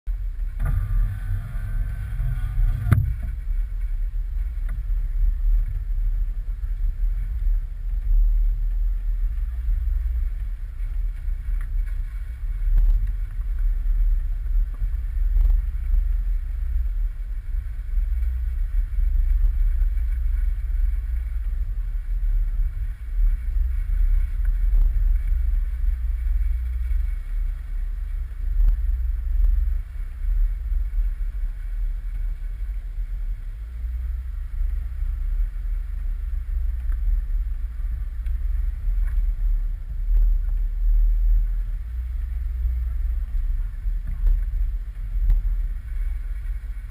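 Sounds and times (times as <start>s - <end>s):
low engine rumble: 0.0s - 46.9s
wind buffeting: 0.2s - 46.9s.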